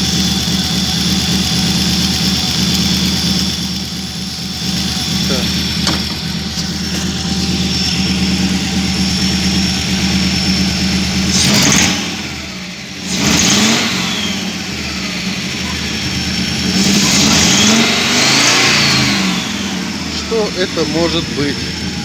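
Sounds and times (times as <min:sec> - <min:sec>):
car engine idling and revving: 0:00.0 - 0:22.0
engine knocking: 0:00.0 - 0:22.0.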